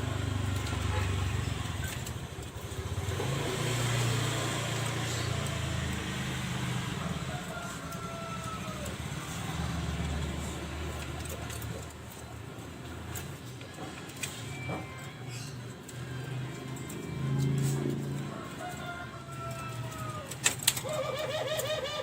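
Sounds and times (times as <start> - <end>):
vehicle engine rumbling: 0.0 - 21.7.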